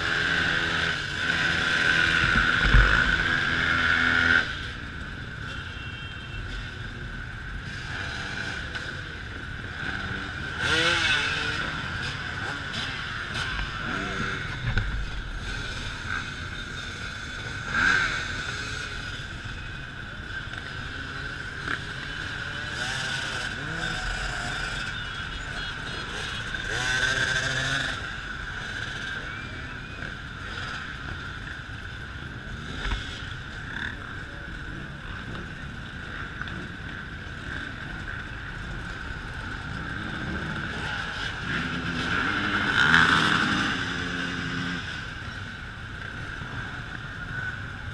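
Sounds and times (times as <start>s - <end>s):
dirt bike revving: 0.0s - 6.1s, 7.2s - 47.7s
dirt bikes riding past: 6.7s - 47.9s.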